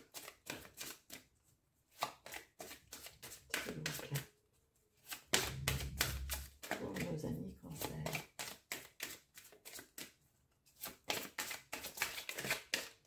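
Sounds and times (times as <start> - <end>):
cards being shuffled: 0.0 - 1.3, 1.9 - 4.3, 5.0 - 13.0.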